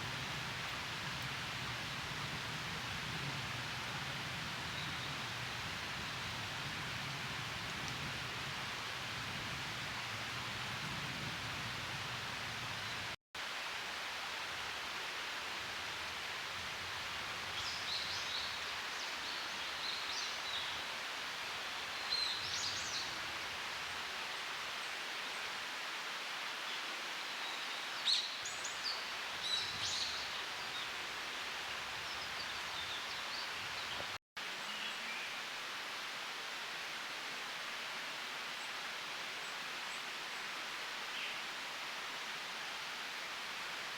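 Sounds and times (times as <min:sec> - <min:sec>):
outdoor background hiss: 0:00.0 - 0:43.9.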